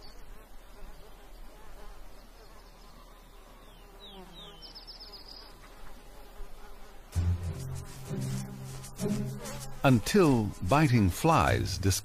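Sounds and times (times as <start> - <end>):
flies buzzing: 0.0 - 12.0.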